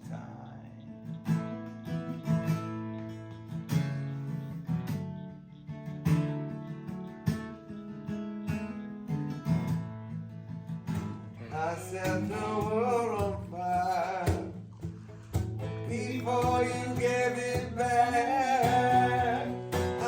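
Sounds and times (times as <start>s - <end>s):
strummed acoustic guitar: 0.0s - 20.0s.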